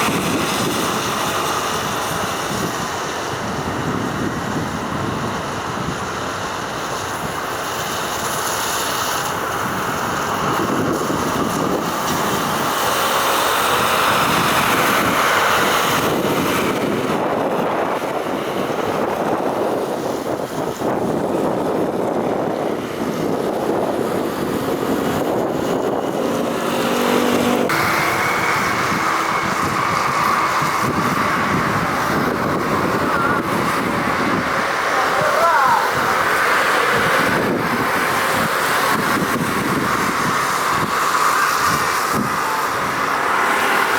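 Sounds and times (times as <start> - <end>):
jet engines landing: 0.0 - 43.9
quieter jet engine noise: 0.0 - 43.9
wind buffeting microphone: 0.0 - 43.9.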